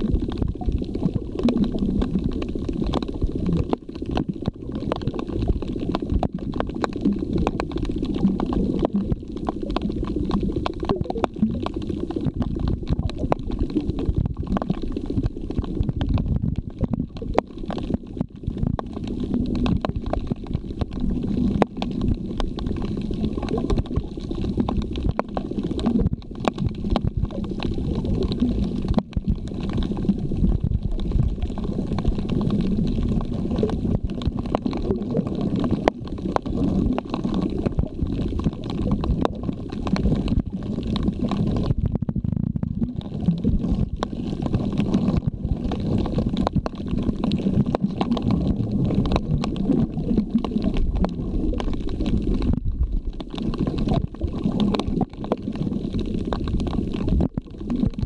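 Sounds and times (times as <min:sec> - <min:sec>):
underwater rumble and gurgle: 0:00.0 - 0:58.0.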